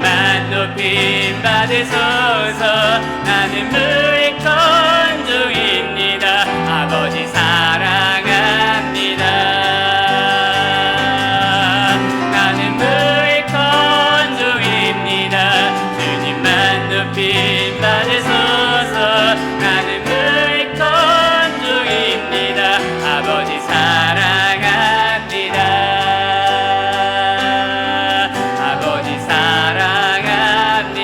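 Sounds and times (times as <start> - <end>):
bass: 0.0 - 31.0
piano: 0.0 - 31.0
worship band playing gospel song: 0.0 - 31.0.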